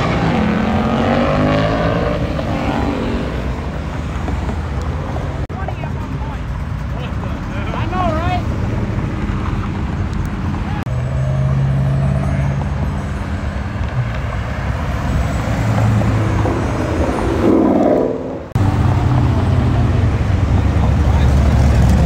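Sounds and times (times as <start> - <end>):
car engines cruising past: 0.0 - 22.0.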